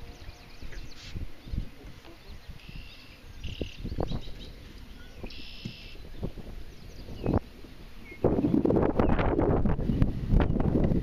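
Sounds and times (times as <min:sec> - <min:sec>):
birds calling in buzzy bursts: 0:00.0 - 0:10.7
wind rumble on microphone: 0:00.0 - 0:11.0.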